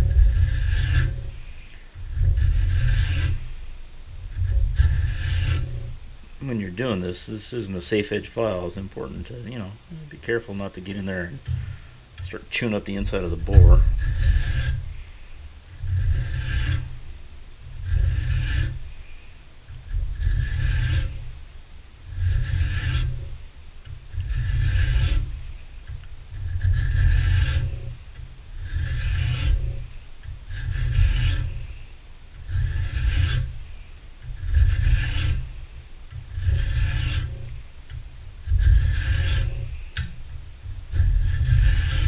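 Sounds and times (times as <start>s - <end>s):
hand file rasping on steel: 0.0s - 21.4s, 22.0s - 42.0s.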